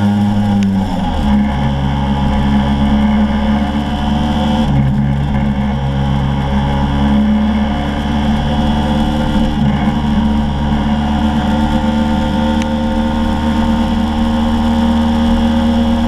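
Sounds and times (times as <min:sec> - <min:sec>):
scooter engine running: 0:00.0 - 0:16.0
wind and road noise: 0:00.0 - 0:16.0.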